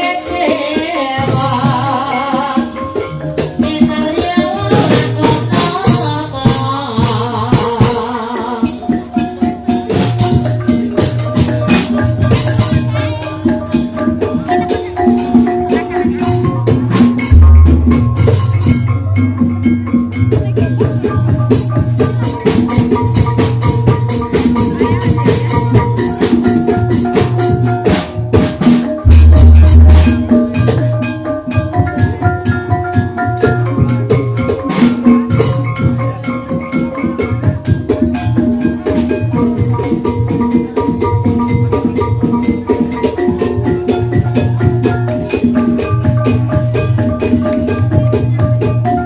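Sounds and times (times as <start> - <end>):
metallophone melody: 0.0 - 49.0
rhythmic drumming: 0.0 - 49.0.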